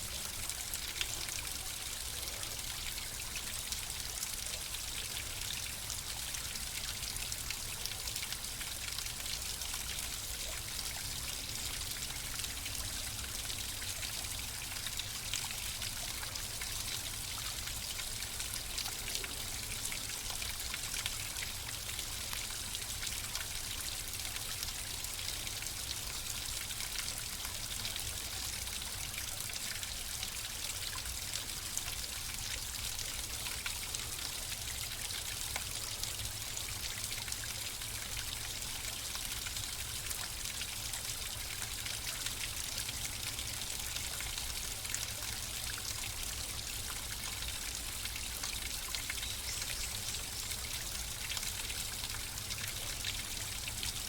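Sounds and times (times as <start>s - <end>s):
running water trickling and splashing: 0.0s - 54.0s.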